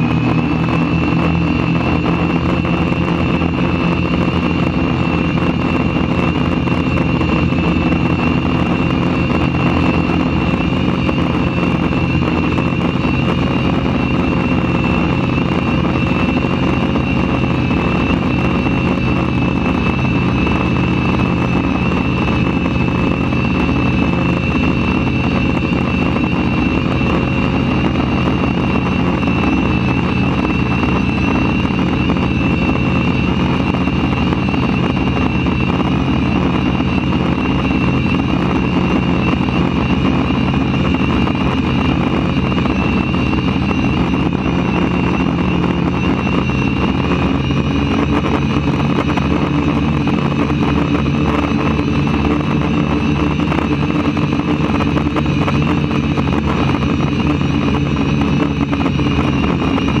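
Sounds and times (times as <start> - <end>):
drone propellers whirring: 0.0 - 60.0
high motor whine: 0.0 - 60.0.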